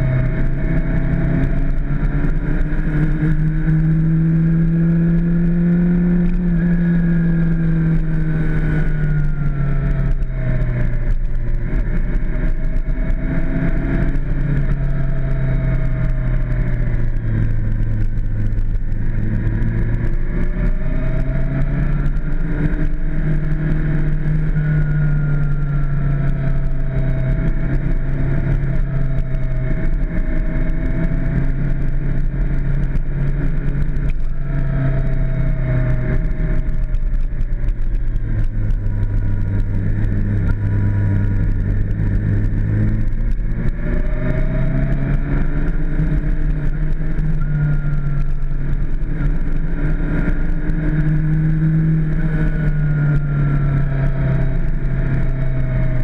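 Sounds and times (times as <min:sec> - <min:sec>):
low steady rumble: 0:00.0 - 0:56.0
motorcycle engine cruising: 0:00.0 - 0:56.0.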